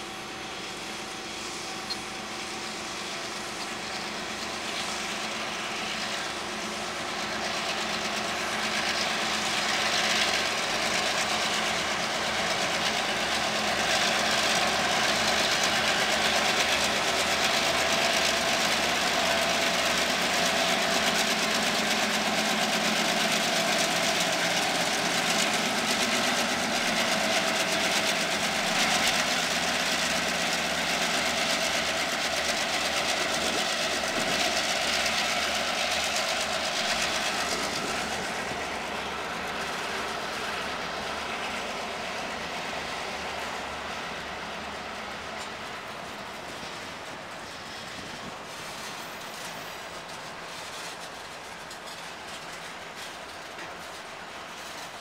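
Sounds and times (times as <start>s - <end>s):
boxcars rolling on rails: 0.0s - 55.0s
diesel locomotive engines running: 0.0s - 55.0s.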